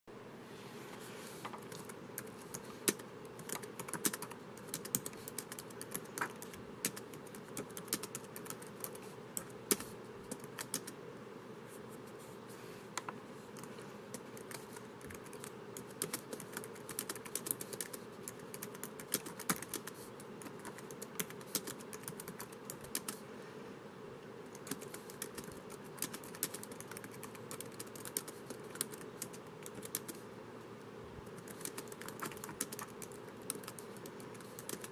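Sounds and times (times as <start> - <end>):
faint steady hiss: 0.1 - 34.9
typing on laptop keyboard: 1.6 - 11.0, 13.6 - 23.2, 24.5 - 30.2, 31.2 - 34.9.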